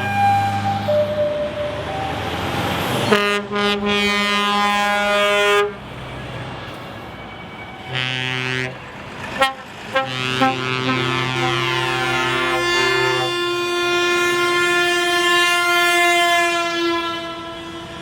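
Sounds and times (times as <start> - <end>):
truck horns blasting: 0.0 - 5.9, 7.8 - 18.0
traffic noise: 0.0 - 18.0.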